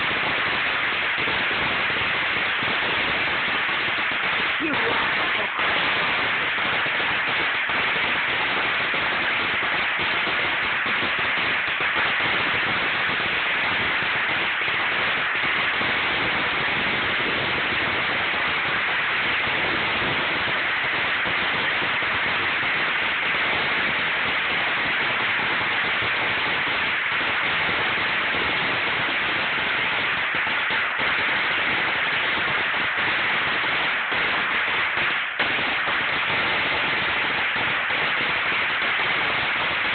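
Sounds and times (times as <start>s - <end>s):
string of firecrackers: 0.0s - 39.9s.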